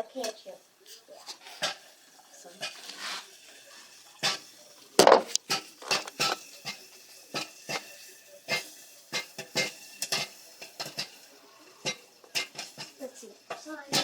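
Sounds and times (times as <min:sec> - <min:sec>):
popcorn popping: 0:00.1 - 0:14.0.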